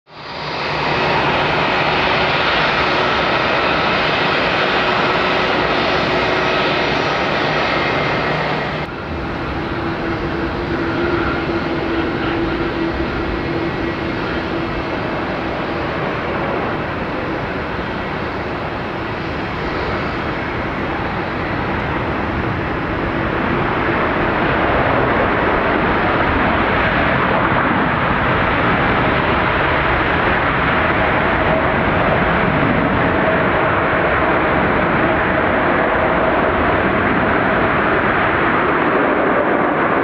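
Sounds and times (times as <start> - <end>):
jet airliner landing: 0.1 - 40.0
jet engines taxiing: 0.1 - 40.0.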